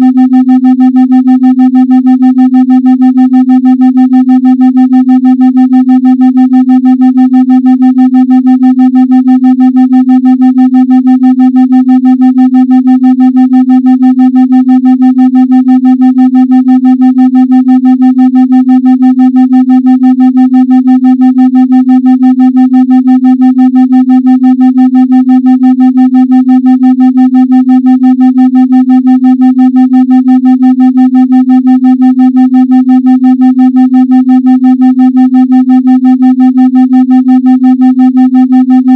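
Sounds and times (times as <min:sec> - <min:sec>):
pulsing sine tone: 0:00.0 - 0:38.9.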